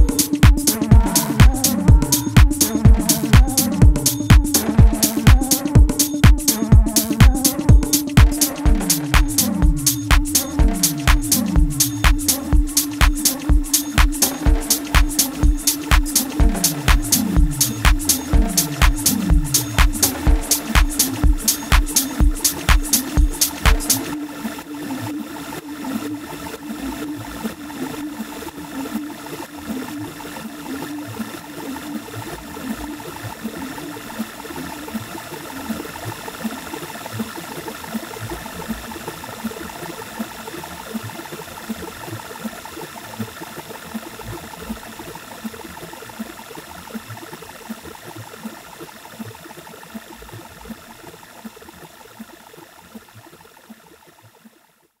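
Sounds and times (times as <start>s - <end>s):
electronic house track: 0.0s - 46.8s.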